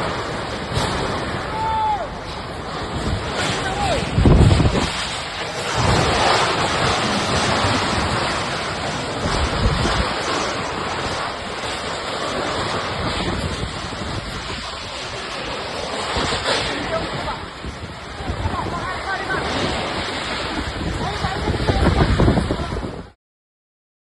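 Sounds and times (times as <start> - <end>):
wind buffeting microphone: 0.0 - 23.2.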